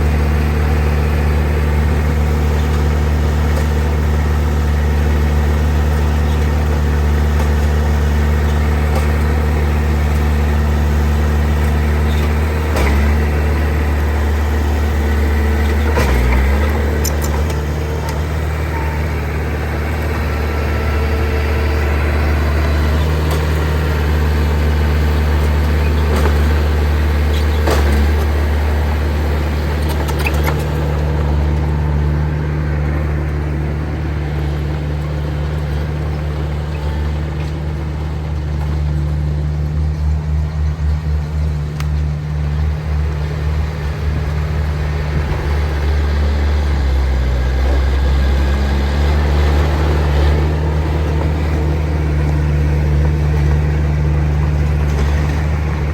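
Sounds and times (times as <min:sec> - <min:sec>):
heavy diesel engine droning: 0:00.0 - 0:55.9.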